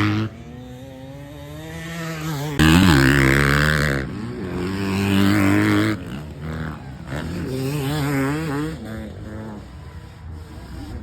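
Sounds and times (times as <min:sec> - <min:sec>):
off-road motorcycle engine revving: 0:00.0 - 0:11.0.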